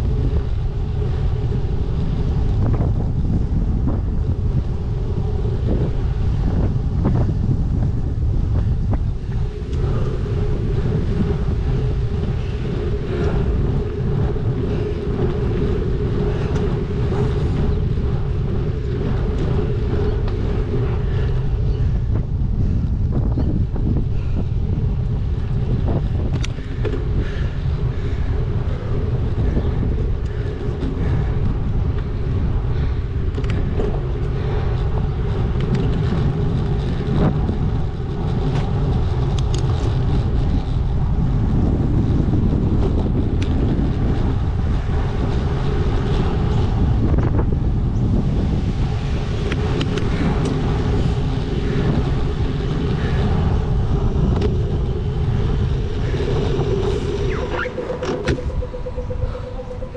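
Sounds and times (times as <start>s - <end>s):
road traffic: 0.0s - 59.9s
wind buffeting microphone: 0.0s - 59.9s.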